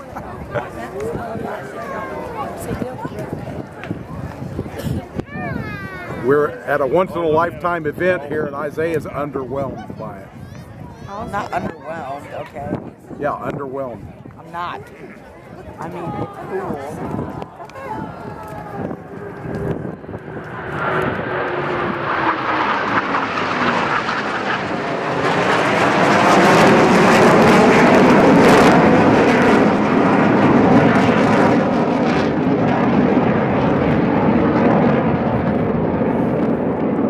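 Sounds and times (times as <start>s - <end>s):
military jets flying overhead: 0.0s - 37.0s.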